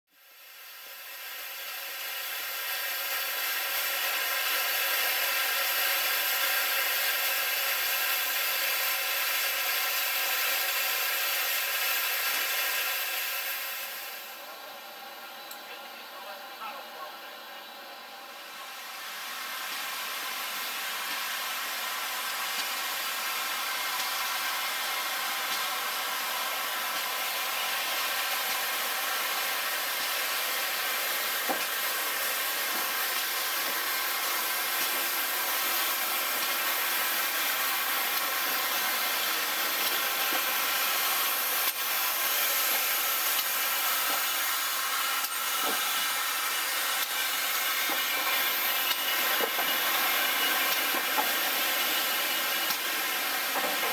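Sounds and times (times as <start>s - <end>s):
steam locomotive hissing steam: 0.1s - 53.9s.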